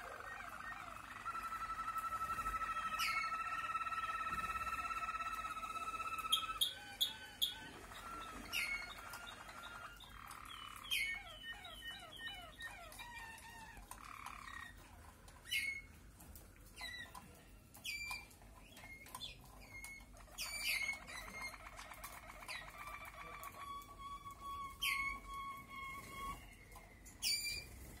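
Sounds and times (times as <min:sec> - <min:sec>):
canaries singing trills: 0:00.0 - 0:28.0.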